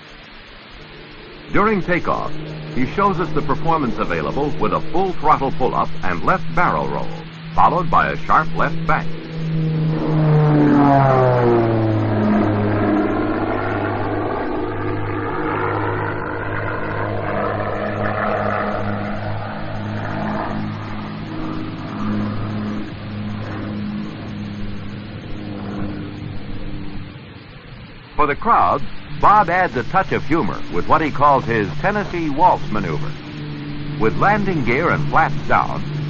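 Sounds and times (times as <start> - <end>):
twin piston aircraft engines: 0.0 - 36.0.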